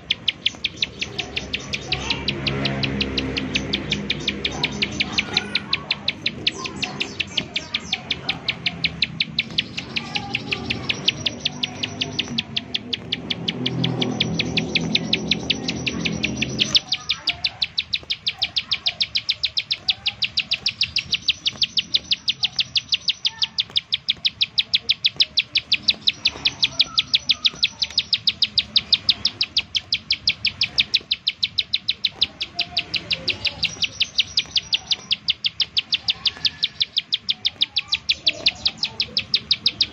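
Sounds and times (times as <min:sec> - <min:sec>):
bird rapid high call: 0:00.0 - 0:39.9.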